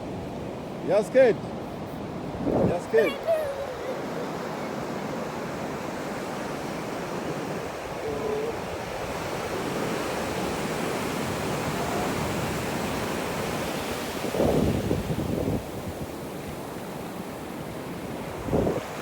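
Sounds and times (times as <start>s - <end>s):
waves washing onto beach: 0.0s - 19.0s.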